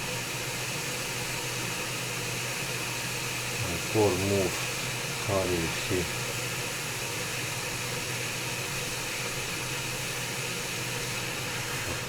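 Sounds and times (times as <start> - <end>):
hot air blower hissing: 0.0 - 12.0.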